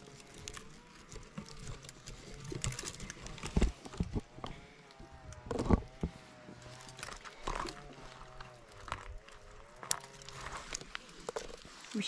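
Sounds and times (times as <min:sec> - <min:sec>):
rustling berry bushes: 0:00.0 - 0:12.0.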